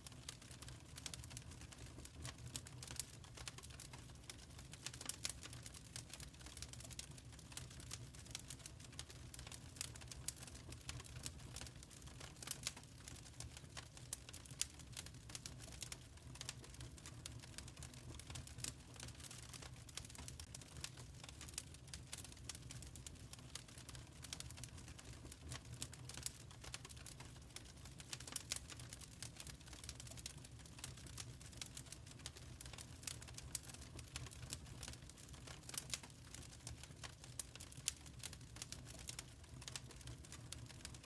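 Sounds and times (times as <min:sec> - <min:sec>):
logs crackling and popping: 0:00.1 - 0:41.0.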